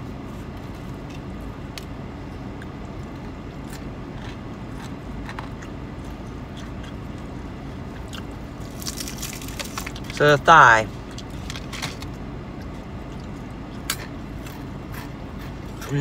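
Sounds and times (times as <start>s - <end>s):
low hum of car cabin: 0.0s - 16.0s
biting and chewing crunches: 0.1s - 16.0s.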